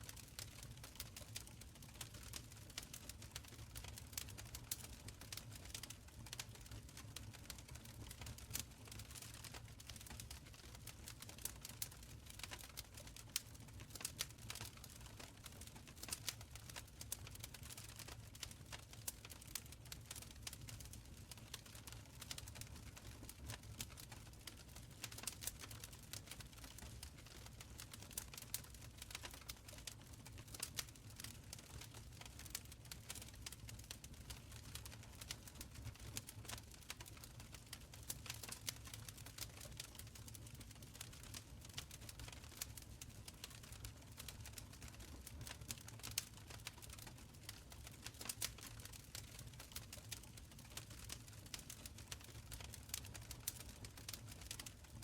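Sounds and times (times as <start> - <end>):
low rumble of burning: 0.0 - 55.0
fire crackling and popping: 0.1 - 55.0.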